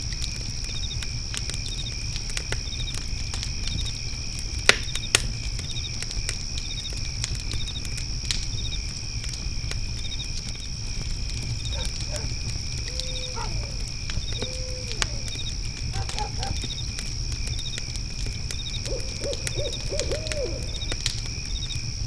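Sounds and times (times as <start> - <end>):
crickets chirping: 0.0 - 22.0
fire crackling and popping: 0.0 - 22.0
low rumble of flames: 0.0 - 22.0.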